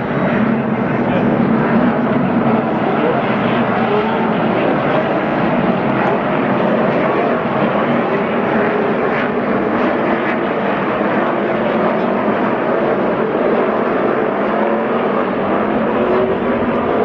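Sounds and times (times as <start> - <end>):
pack of race car engines roaring: 0.0 - 17.0.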